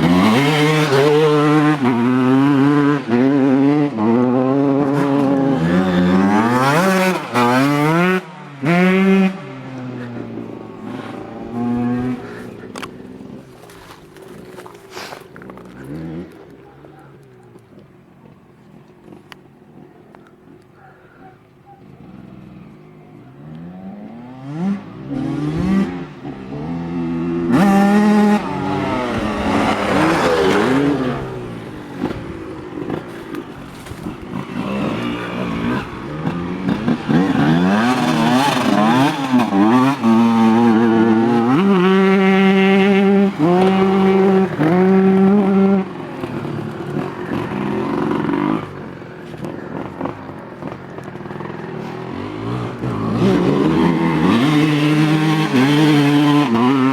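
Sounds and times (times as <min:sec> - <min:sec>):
motocross engine revving: 0:00.0 - 0:17.0, 0:23.4 - 0:56.9.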